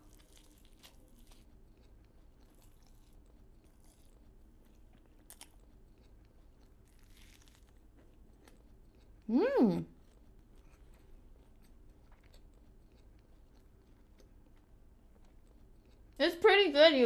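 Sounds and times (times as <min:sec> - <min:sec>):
close-up chewing: 0:00.0 - 0:16.2
low room hum: 0:00.0 - 0:17.0.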